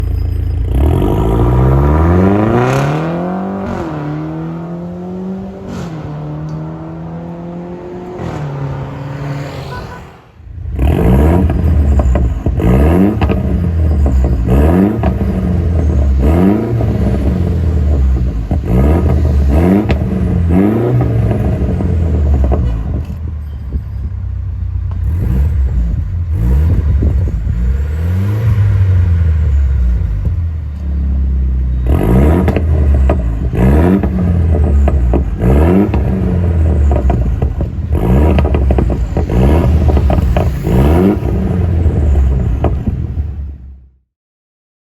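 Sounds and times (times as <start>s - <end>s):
car engine revving: 0.6s - 23.4s, 24.8s - 43.8s.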